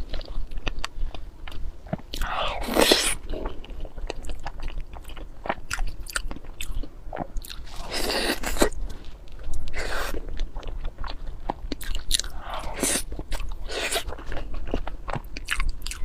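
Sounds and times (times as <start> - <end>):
chewing and biting food: 0.0 - 16.0.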